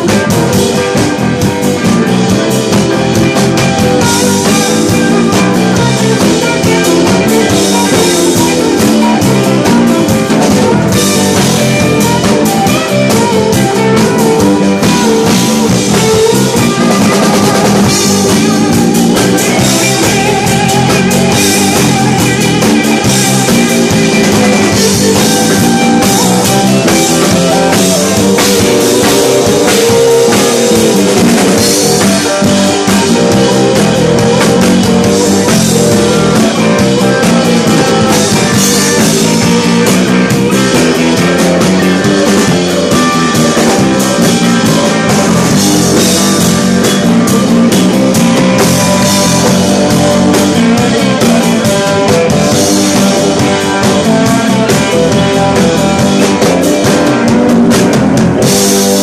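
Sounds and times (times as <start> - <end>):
drum kit with cymbals: 0.0 - 59.0
electric guitars: 0.0 - 59.0.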